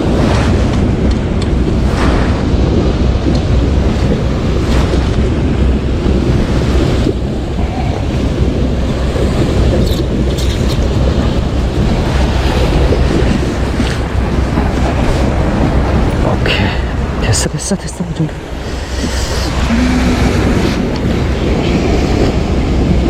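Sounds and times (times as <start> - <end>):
sea waves washing: 0.0 - 23.0
wind rumbling on microphone: 0.0 - 23.0.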